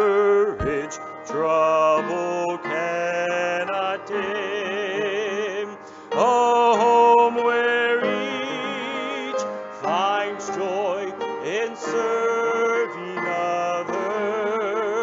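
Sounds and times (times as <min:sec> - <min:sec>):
person singing a hymn: 0:00.0 - 0:15.0.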